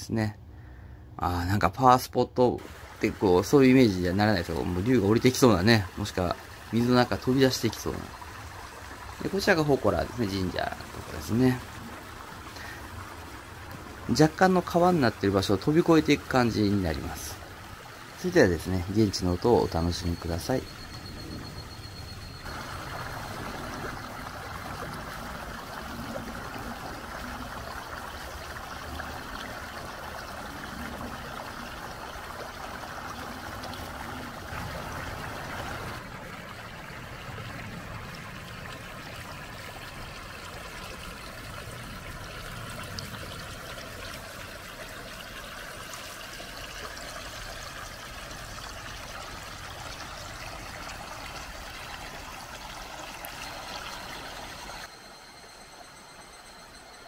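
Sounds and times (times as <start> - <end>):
stream babbling over rock: 2.6 - 54.9.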